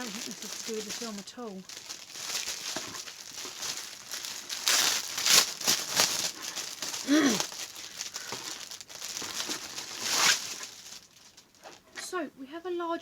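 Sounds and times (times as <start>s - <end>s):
packaging crinkling and rustling: 0.0s - 11.8s.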